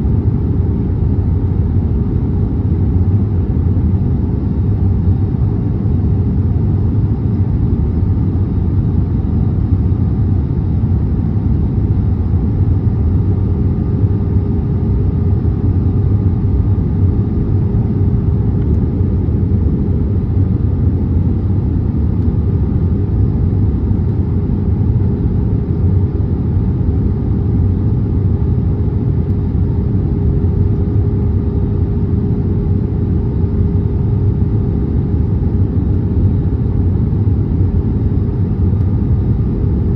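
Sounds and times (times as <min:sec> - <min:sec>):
airplane cabin engine drone: 0:00.0 - 0:39.9
steady hum: 0:00.0 - 0:39.9.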